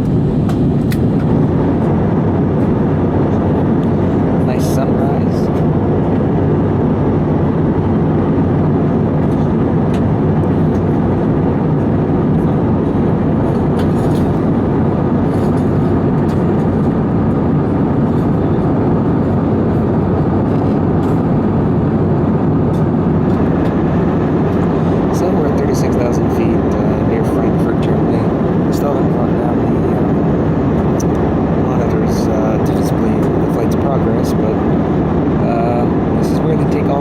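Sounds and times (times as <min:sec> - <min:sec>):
jet engines droning in cabin: 0:00.0 - 0:37.0
rushing airflow: 0:00.0 - 0:37.0.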